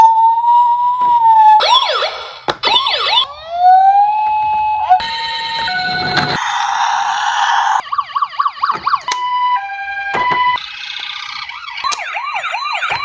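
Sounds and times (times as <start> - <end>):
electronic siren: 0.0 - 13.0.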